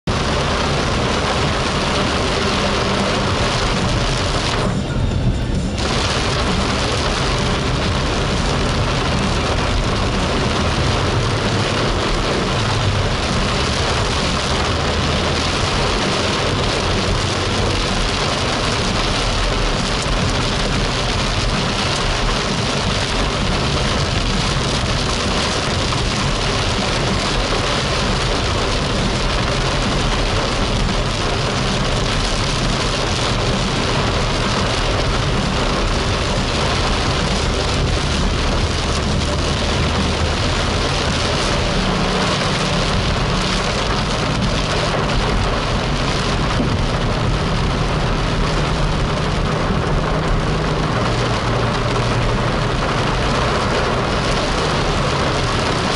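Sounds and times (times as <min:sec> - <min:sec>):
car road noise rumbling: 0:00.0 - 0:55.9
heavy rain on car roof: 0:00.0 - 0:55.9.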